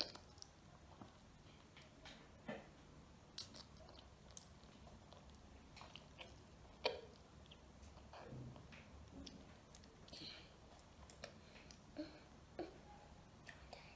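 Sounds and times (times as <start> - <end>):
child chewing and slurping: 0.0 - 1.8, 3.3 - 13.9.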